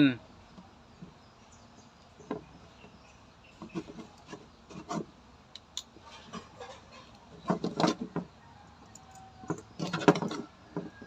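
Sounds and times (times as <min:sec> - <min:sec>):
wires scraping and rubbing: 0:02.0 - 0:11.0.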